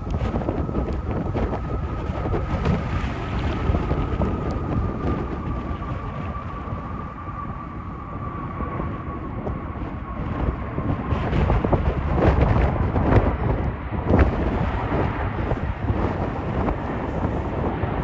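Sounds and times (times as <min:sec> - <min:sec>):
jet engines rumbling and whining: 0:00.0 - 0:18.0
wind buffeting microphone: 0:00.0 - 0:18.0.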